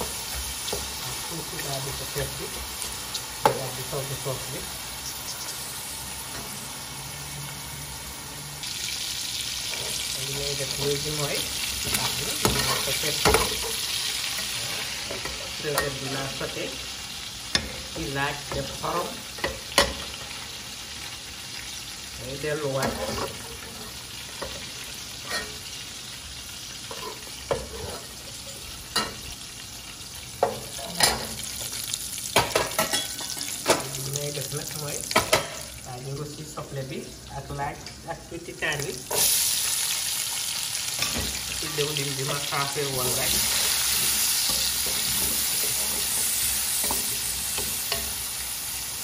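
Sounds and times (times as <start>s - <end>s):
oil sizzling in a pan: 0.0s - 49.0s.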